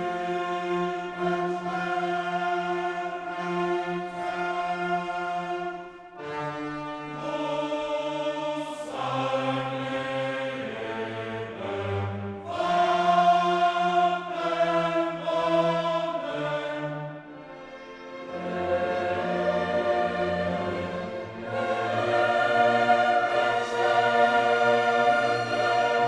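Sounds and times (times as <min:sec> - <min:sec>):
choir singing with orchestra: 0:00.0 - 0:26.0.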